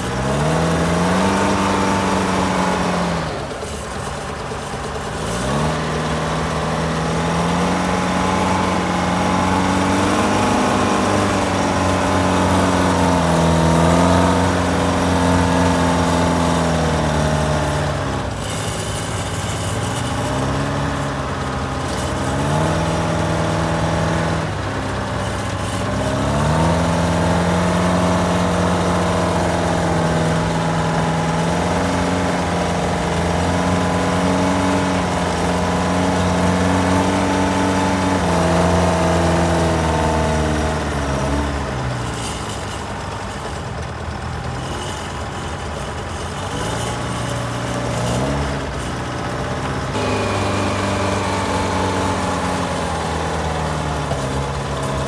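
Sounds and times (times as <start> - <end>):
loader engine revving under load: 0.0 - 55.0.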